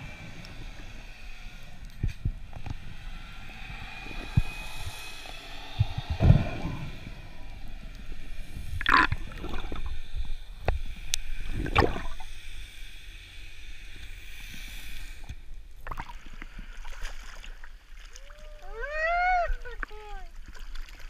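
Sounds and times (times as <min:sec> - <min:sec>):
underwater gurgling rumble: 0:00.0 - 0:18.8.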